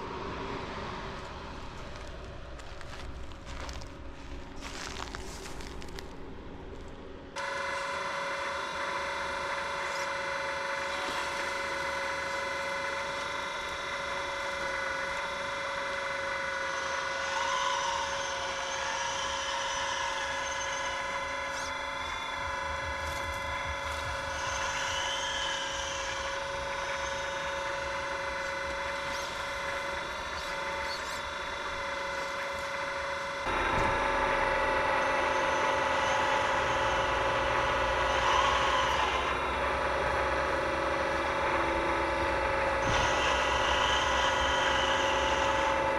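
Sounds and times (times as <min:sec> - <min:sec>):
electric motors whining: 0:00.0 - 0:45.9.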